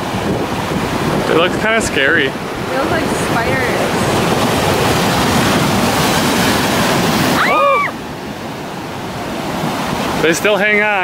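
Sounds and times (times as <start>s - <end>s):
surf breaking against rock: 0.0s - 11.0s.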